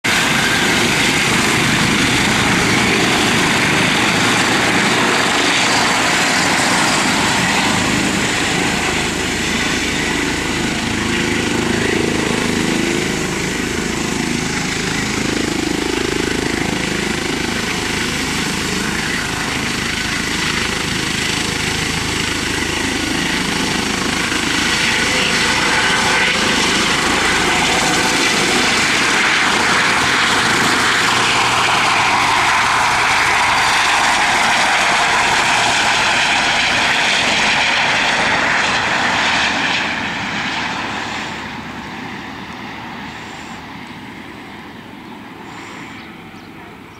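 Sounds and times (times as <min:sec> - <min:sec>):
helicopter engines and rotors: 0:00.0 - 0:46.9.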